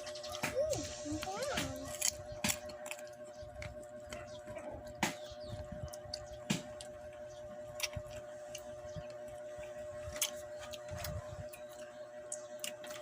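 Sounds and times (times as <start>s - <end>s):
faint steady hum: 0.0s - 13.0s
person chewing: 0.2s - 5.0s, 5.6s - 13.0s.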